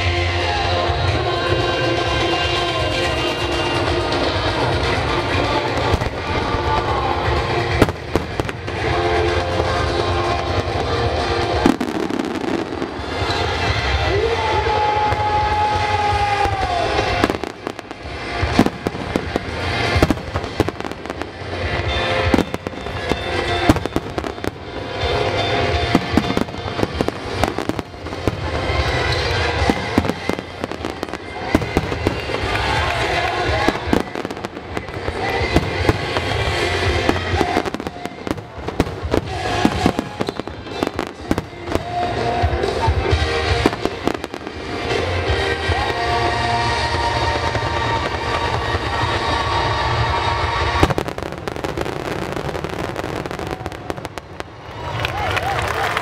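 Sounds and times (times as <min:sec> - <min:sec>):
fireworks bursting with sharp bangs: 0:00.0 - 0:56.0
music soundtrack: 0:00.0 - 0:56.0.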